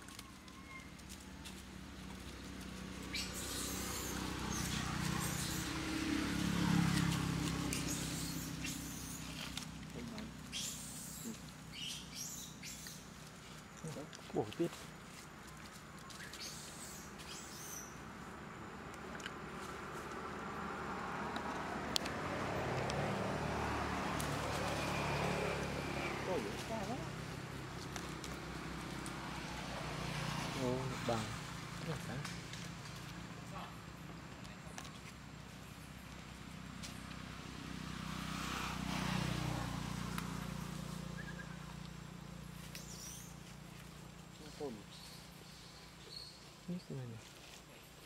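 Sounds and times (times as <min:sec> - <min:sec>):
vehicle engine humming: 0:00.0 - 0:48.0.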